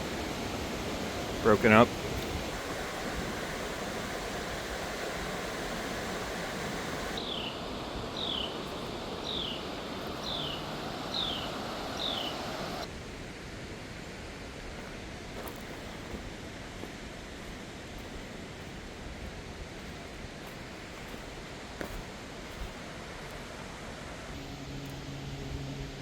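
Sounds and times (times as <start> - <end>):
rushing outdoor noise: 0.0 - 26.0.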